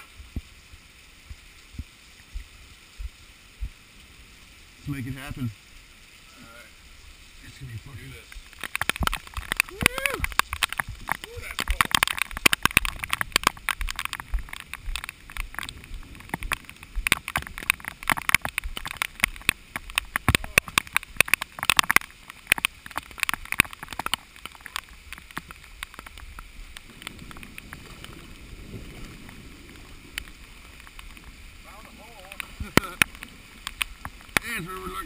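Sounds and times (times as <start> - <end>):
heavy rain: 0.0 - 35.0
rushing floodwater: 0.0 - 35.0.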